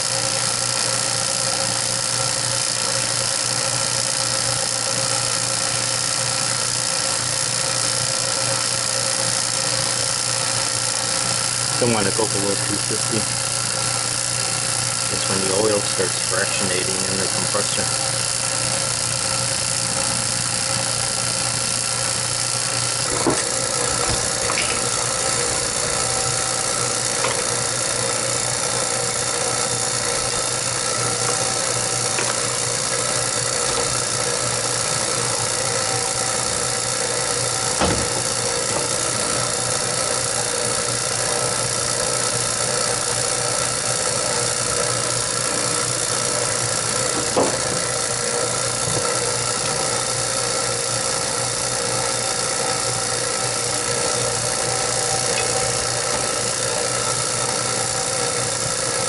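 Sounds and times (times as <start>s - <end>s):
vacuum pump humming: 0.0s - 59.0s.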